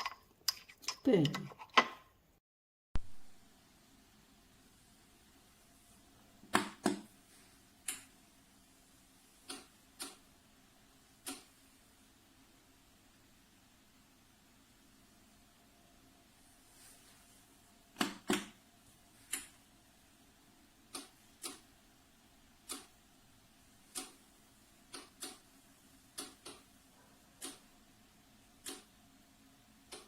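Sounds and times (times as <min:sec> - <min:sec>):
faint steady hum: 0:03.0 - 0:30.0.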